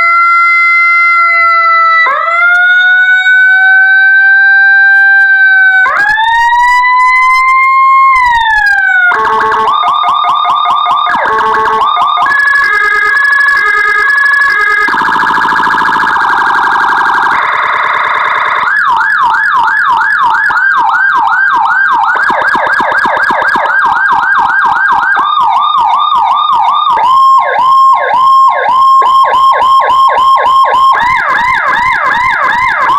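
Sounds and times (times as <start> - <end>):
electronic police siren: 0.0 - 32.9.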